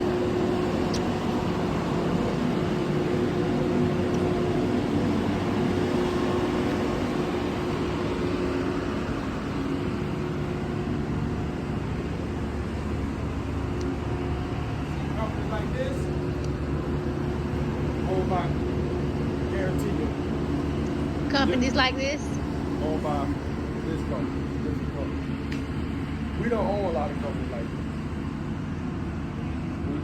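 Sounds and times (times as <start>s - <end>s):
heavy engines droning: 0.0s - 30.0s.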